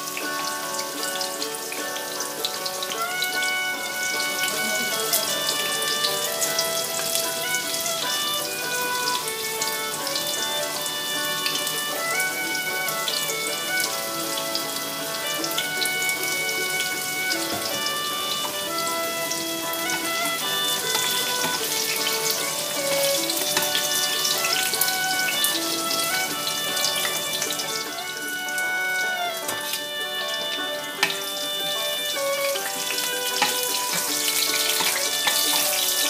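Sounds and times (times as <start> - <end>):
soft instrumental music: 0.0 - 36.0
tofu sizzling in hot oil: 0.0 - 36.0.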